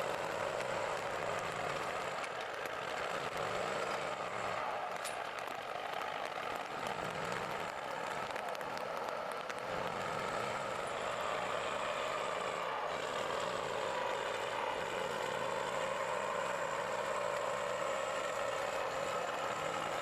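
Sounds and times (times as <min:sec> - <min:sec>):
diesel truck engine droning: 0:00.0 - 0:08.7, 0:09.6 - 0:20.0.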